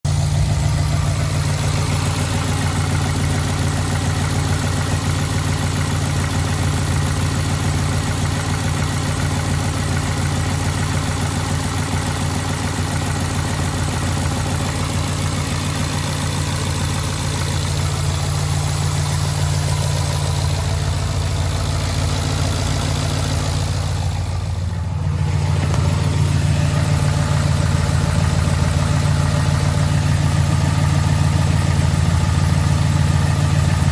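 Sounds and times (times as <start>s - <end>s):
engine idling: 0.0s - 33.9s
engine knocking: 0.0s - 33.9s.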